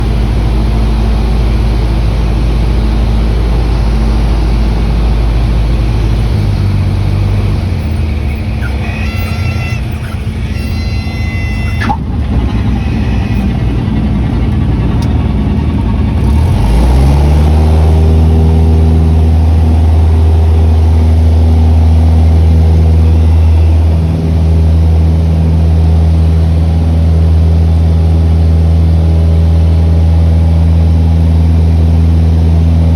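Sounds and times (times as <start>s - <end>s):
light aircraft engine and propeller: 0.0s - 32.9s.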